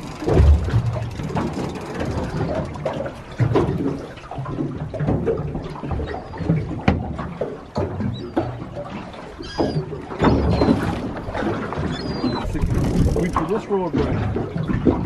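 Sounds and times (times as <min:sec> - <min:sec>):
seawater splashing against boat: 0:00.0 - 0:15.0.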